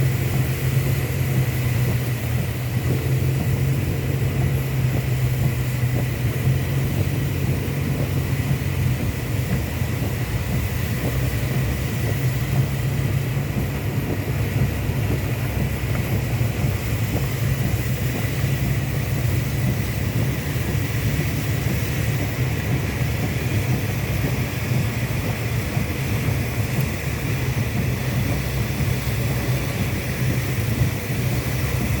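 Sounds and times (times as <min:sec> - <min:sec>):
car driving in traffic: 0:00.0 - 0:32.0.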